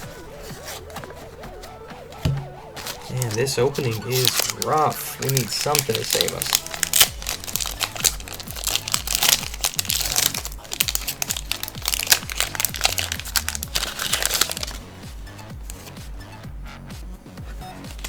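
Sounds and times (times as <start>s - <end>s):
foil wrapper crinkling: 0.0s - 16.0s
electronic music with steady beat: 0.0s - 18.0s.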